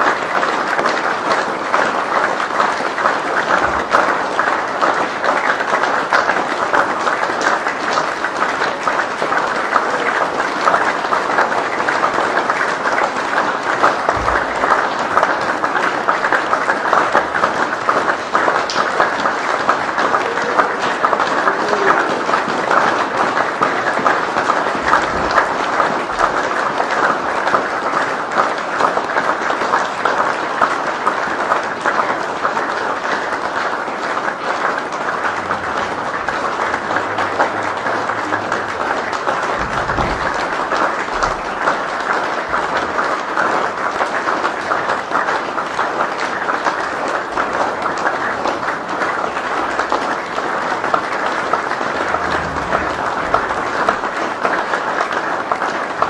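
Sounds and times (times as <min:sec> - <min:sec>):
crowd applauding: 0:00.0 - 0:56.0.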